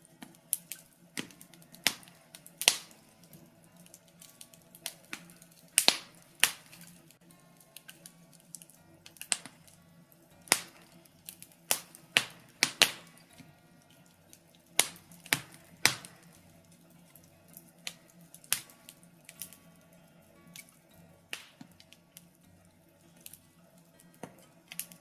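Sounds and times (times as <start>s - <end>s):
logs crackling in a fireplace: 0.0s - 25.0s.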